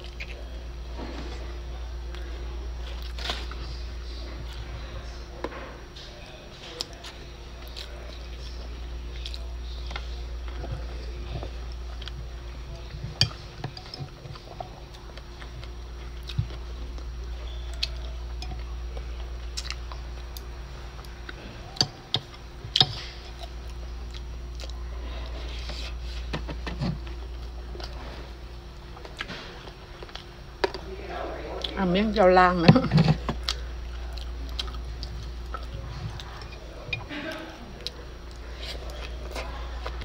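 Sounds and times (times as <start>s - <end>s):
steady low hum: 0.0s - 40.0s
person chewing: 2.1s - 3.8s, 6.7s - 30.3s, 33.0s - 40.0s.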